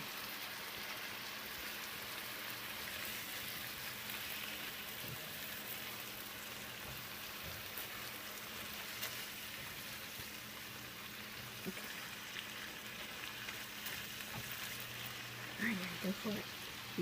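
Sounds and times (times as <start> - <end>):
meat sizzling in a frying pan: 0.0 - 17.0.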